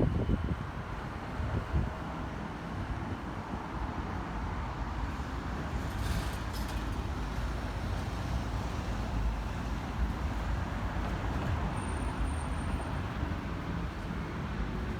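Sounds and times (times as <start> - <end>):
rumble of passing vehicles: 0.0 - 14.9.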